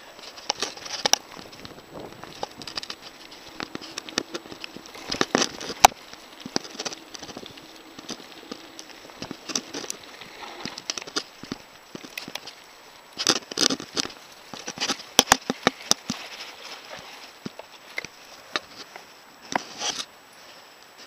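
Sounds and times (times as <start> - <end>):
mountain bike rattling over dirt trail: 0.0 - 20.2.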